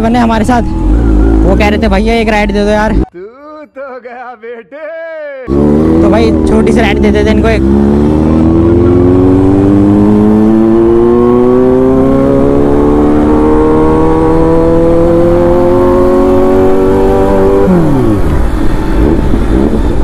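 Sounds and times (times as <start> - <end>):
motorcycle engine accelerating: 0.0 - 3.1, 5.5 - 20.0.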